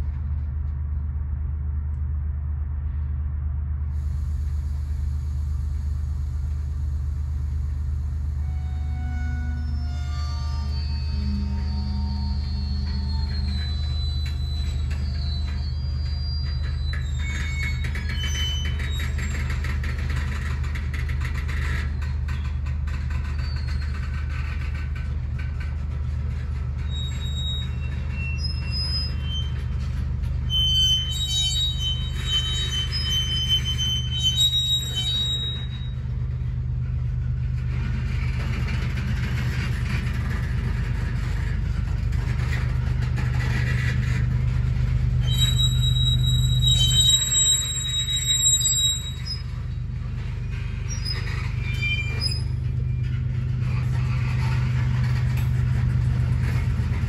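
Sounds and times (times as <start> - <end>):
train wheel squeals: 4.0 - 57.0.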